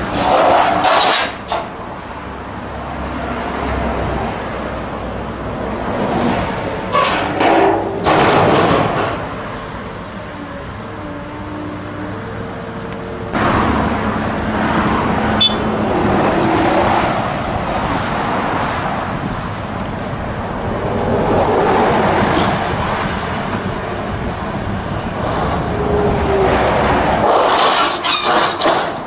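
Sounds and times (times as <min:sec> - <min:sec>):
excavator working: 0:00.0 - 0:29.0
motorway traffic passing: 0:00.0 - 0:29.0.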